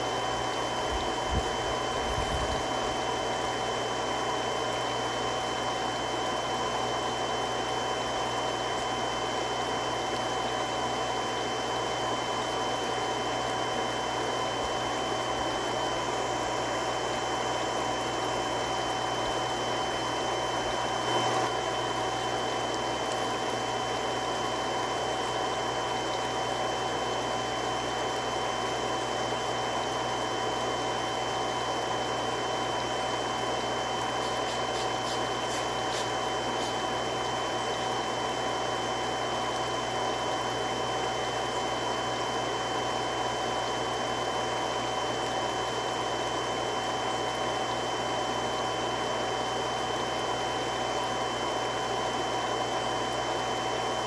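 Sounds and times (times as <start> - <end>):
water pump running: 0.0 - 54.0.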